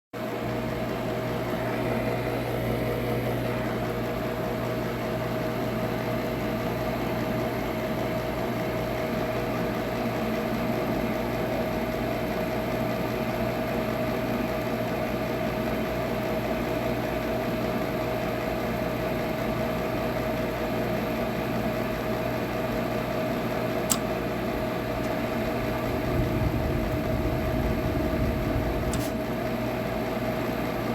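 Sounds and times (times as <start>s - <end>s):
furnace humming: 0.2s - 30.9s.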